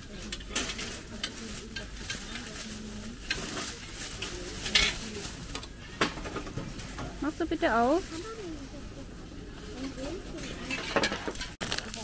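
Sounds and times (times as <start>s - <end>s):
bags crinkling and rustling: 0.0s - 8.7s, 9.6s - 12.0s.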